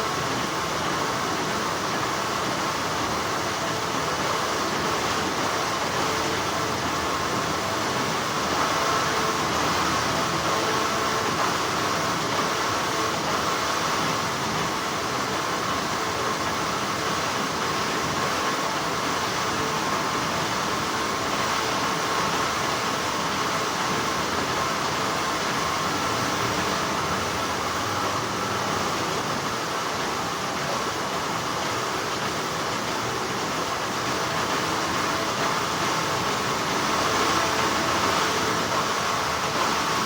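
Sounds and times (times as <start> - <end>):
factory machinery humming: 0.0 - 40.0.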